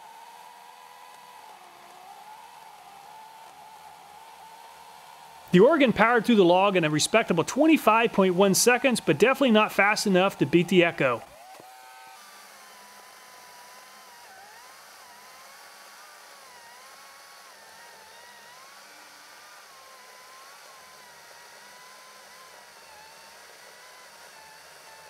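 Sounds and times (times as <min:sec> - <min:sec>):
electric chainsaw cutting log: 0:00.0 - 0:25.0.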